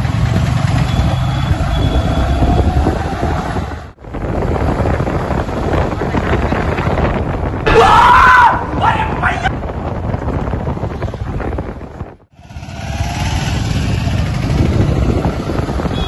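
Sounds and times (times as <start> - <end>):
wind buffeting microphone: 0.3 - 16.0.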